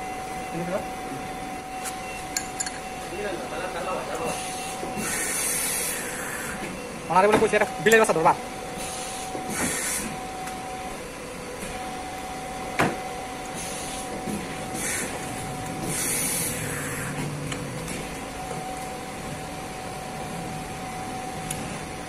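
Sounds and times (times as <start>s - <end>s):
machine mechanical hum: 0.0s - 22.0s.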